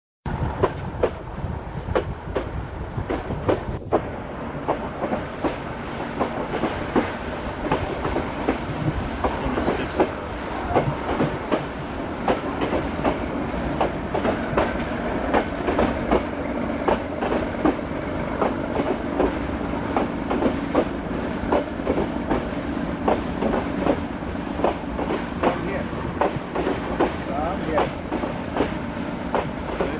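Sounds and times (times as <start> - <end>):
train wheels rumbling on rails: 0.3 - 29.9
wheels clicking over rail joints: 1.9 - 29.9.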